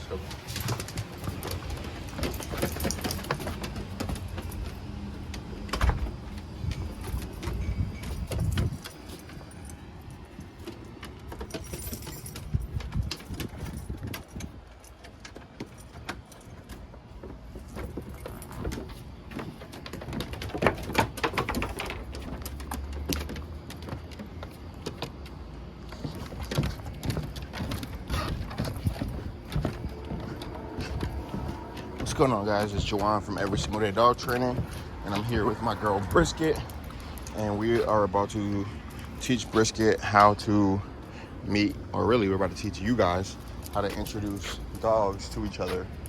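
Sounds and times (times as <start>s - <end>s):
low traffic rumble: 0.0s - 46.0s
scattered clicks and rattles: 0.0s - 46.0s.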